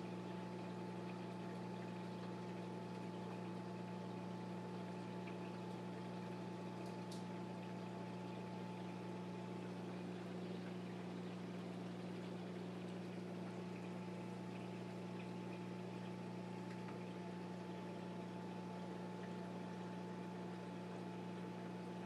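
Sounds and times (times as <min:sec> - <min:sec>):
aquarium pump hum: 0:00.0 - 0:22.0.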